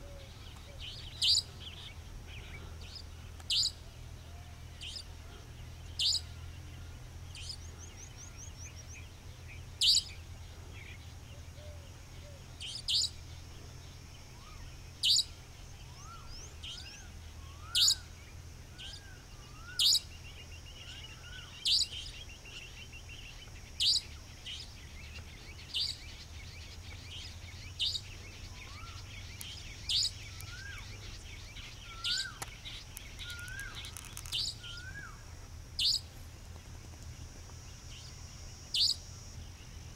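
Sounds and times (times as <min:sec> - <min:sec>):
nightjar sharp call: 0:00.0 - 0:05.2, 0:05.9 - 0:06.5, 0:09.8 - 0:13.3, 0:14.3 - 0:36.1, 0:37.9 - 0:39.2.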